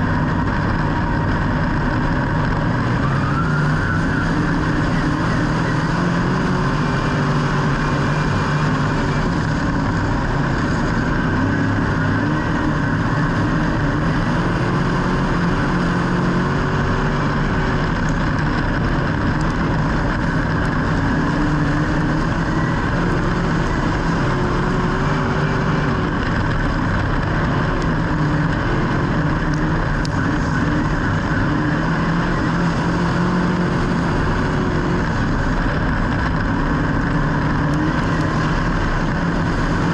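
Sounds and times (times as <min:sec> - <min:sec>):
racing engines: 0:00.0 - 0:39.9.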